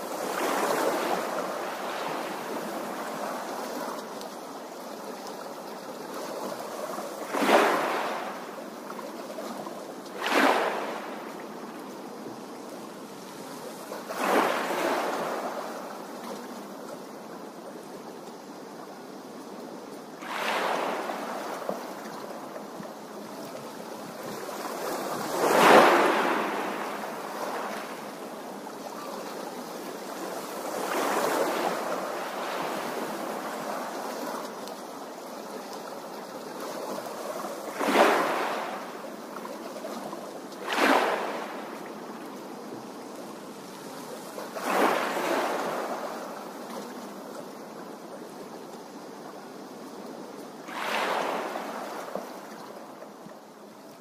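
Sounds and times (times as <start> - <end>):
small waves splashing on shore: 0.0 - 54.0.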